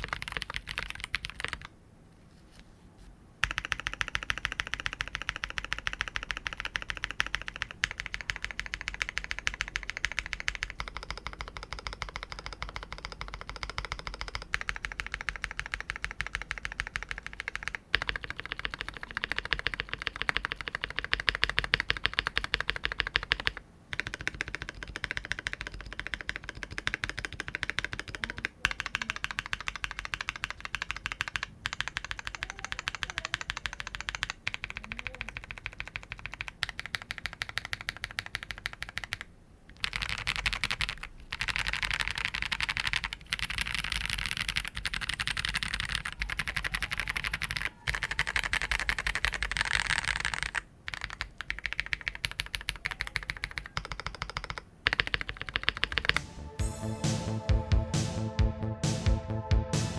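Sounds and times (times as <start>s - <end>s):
mechanical keyboard typing: 0.0s - 1.7s, 3.4s - 56.3s.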